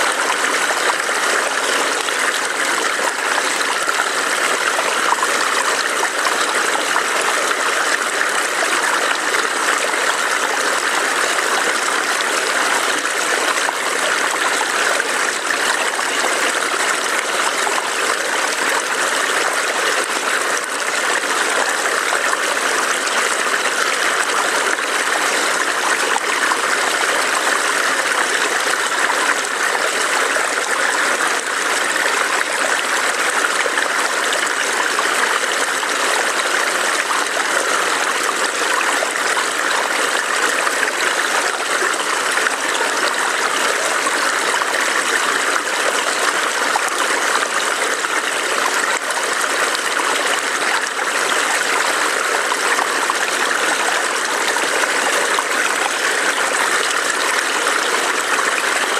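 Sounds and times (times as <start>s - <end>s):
stream water trickling: 0.0s - 58.9s.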